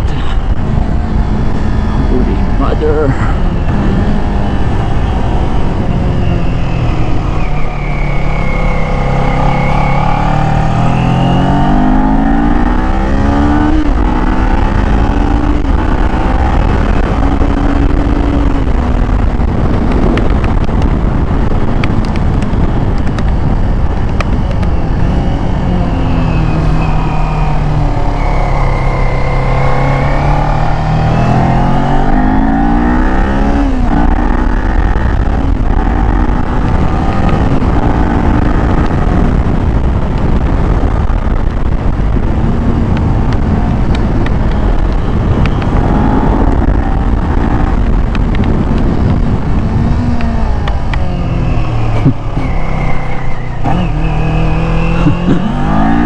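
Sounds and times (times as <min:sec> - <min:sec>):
motorcycle engine revving: 0:00.0 - 0:56.0
wind rumble on microphone: 0:00.0 - 0:56.0.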